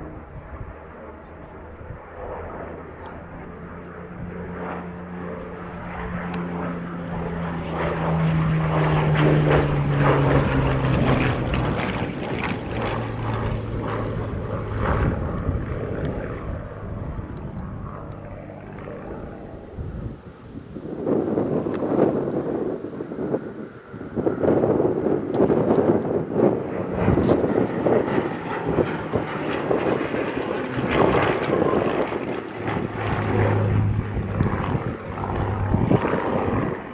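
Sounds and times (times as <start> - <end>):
propeller aircraft flying past: 0.0 - 36.9.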